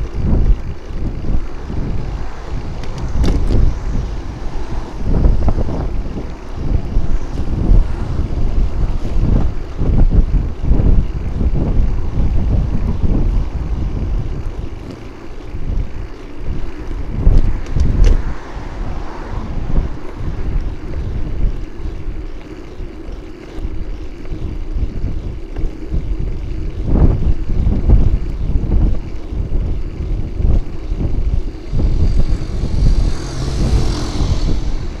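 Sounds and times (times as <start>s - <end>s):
road noise: 0.0s - 35.0s
wind buffeting microphone: 0.0s - 35.0s.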